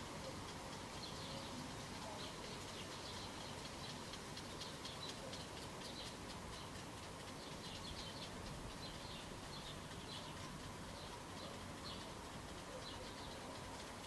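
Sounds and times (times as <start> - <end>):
faint outdoor background: 0.0 - 14.0
small birds chirping: 0.0 - 14.0.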